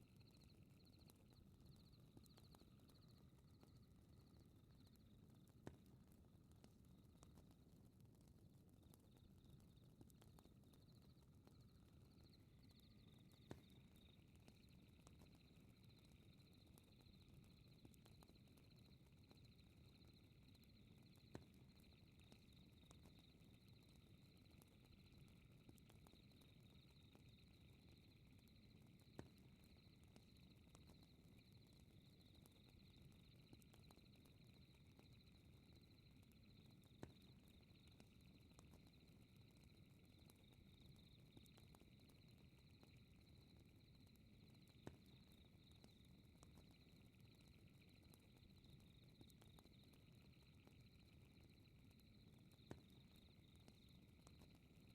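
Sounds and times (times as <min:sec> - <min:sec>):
night insects chirring: 0:00.0 - 0:05.1, 0:09.1 - 0:54.9.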